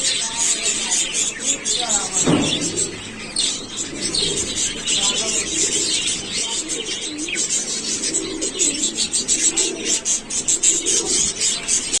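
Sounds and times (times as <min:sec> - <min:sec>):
birds chirping: 0:00.0 - 0:12.0
low cooing: 0:01.6 - 0:12.0.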